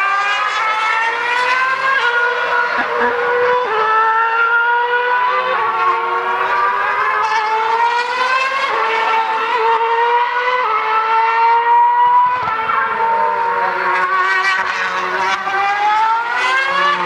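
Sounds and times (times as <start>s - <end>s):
race car engine at high revs: 0.0s - 17.0s.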